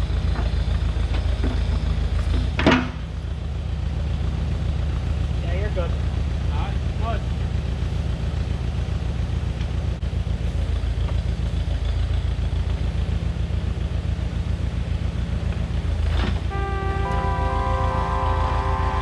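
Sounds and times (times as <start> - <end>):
heavy equipment engine running: 0.0 - 19.0.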